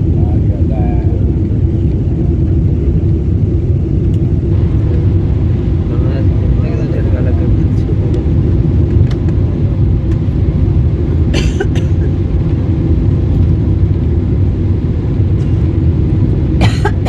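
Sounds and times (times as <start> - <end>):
aircraft engines and wheels rumbling: 0.0 - 17.0.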